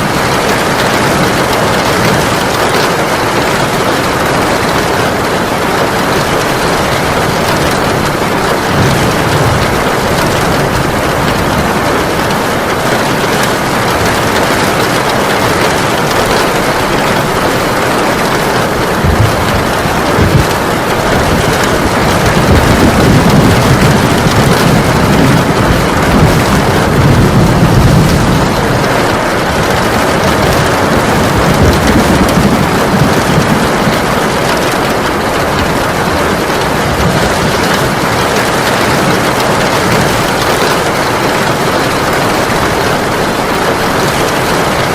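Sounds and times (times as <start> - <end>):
heavy rain pouring: 0.0 - 44.9
low rolling rumble: 0.1 - 44.9.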